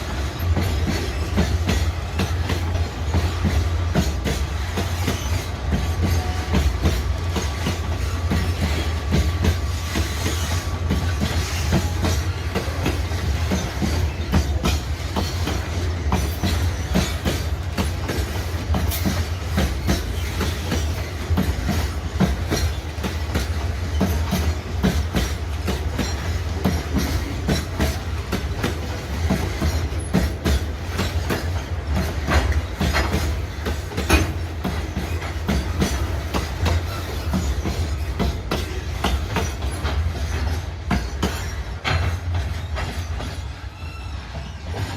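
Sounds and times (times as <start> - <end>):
train rumble: 0.0 - 44.9
train wheels clacking on rail joints: 0.0 - 44.9.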